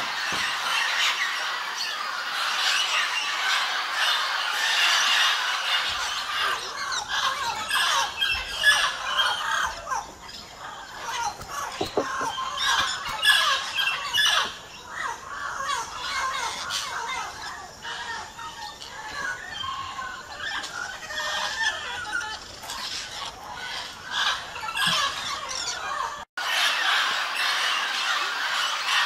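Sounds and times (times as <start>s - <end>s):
parrots squawking: 0.1s - 17.2s, 17.8s - 29.0s.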